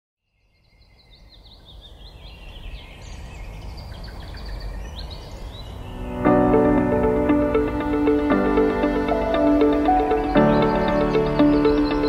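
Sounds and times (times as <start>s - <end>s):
birds chirping and warbling: 0.2s - 12.0s.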